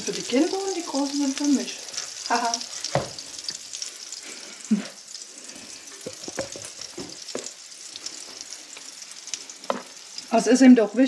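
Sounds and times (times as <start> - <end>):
patties sizzling in a pan: 0.0 - 11.0.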